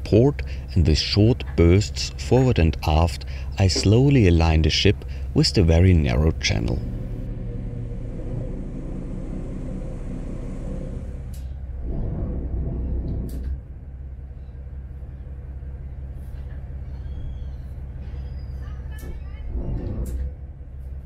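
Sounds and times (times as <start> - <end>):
ship engine running: 0.0 - 20.8.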